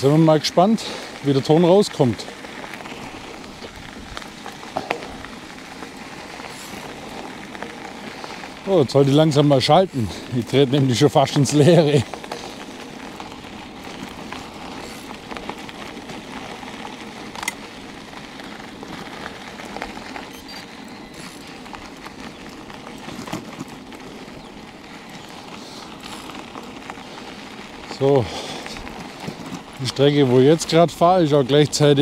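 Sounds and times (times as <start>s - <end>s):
tyres rolling on path: 0.0s - 32.0s
wind: 0.0s - 32.0s.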